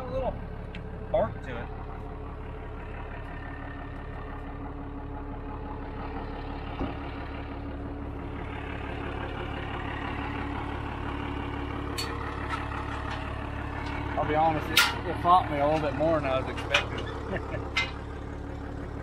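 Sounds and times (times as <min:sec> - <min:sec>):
diesel engine idling: 0:00.0 - 0:19.0
engine knock: 0:00.0 - 0:19.0.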